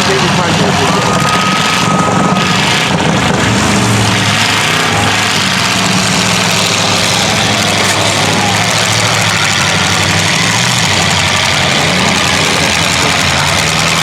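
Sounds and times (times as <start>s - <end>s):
demolition derby car engines revving: 0.0s - 14.0s.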